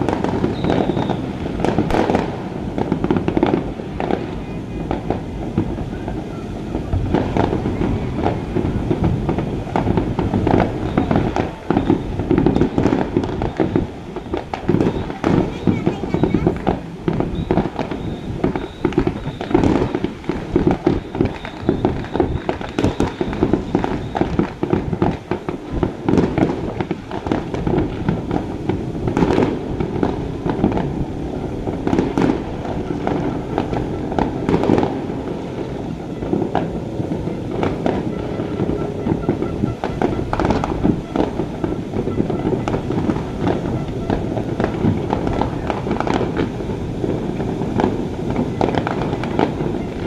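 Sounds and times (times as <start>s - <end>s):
fireworks bangs and crackles: 0.0s - 50.0s
loud fireworks cracks: 0.0s - 50.0s.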